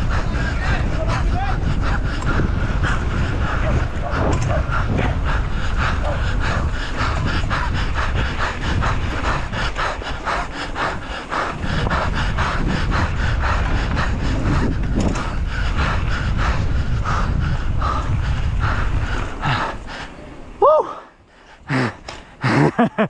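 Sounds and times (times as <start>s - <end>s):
wind on microphone: 0.0s - 20.9s
person panting hard: 0.0s - 23.0s.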